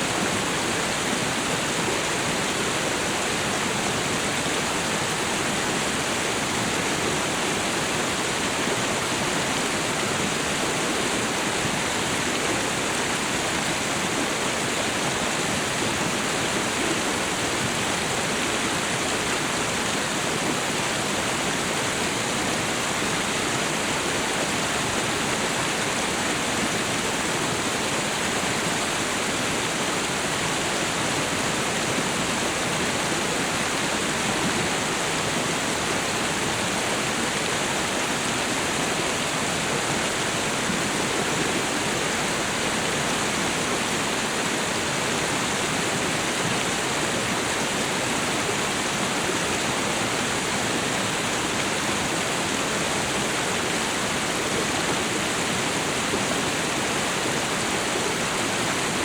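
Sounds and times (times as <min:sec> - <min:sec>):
waterfall and river rushing: 0:00.0 - 0:59.0.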